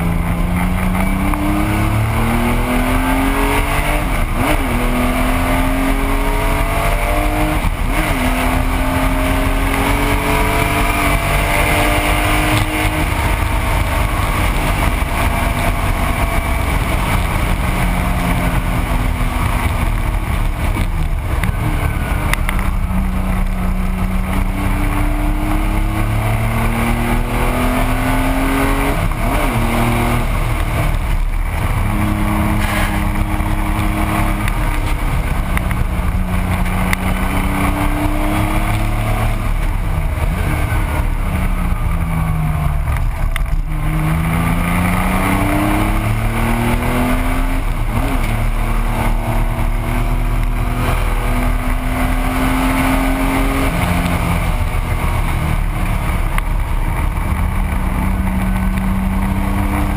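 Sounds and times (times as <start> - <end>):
car engine revving through gears: 0.0 - 59.9
wind and road noise: 0.0 - 59.9.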